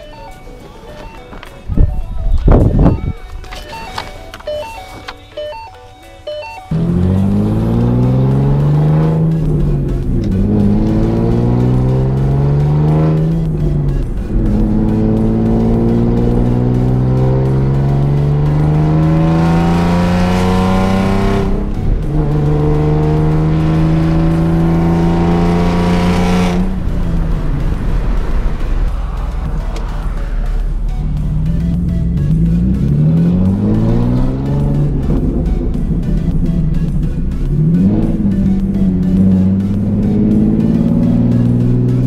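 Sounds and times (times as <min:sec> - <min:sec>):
car exhaust accelerating: 0:06.7 - 0:42.0.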